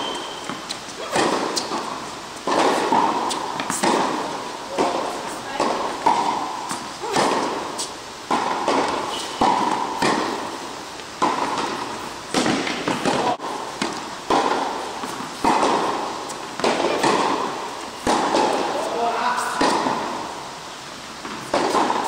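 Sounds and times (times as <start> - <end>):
tennis balls struck and bouncing: 0.0 - 22.0.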